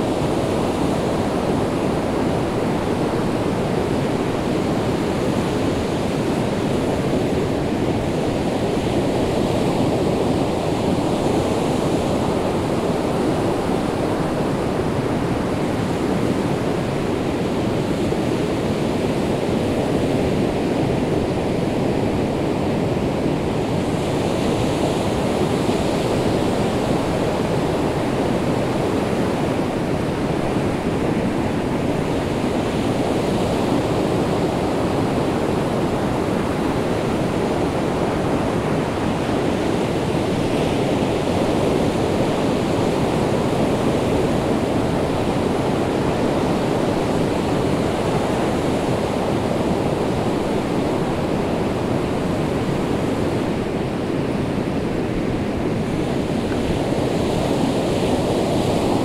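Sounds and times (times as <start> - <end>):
waves washing onto beach: 0.0 - 59.0.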